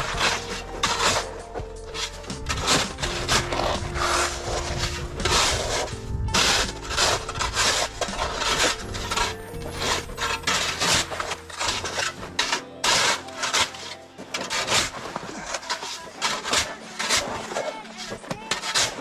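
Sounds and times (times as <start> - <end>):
wooden rasping scraping strokes: 0.0 - 19.0.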